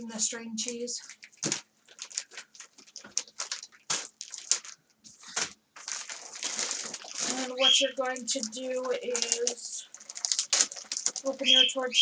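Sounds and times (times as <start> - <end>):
plastic packaging crinkling: 0.6 - 12.0.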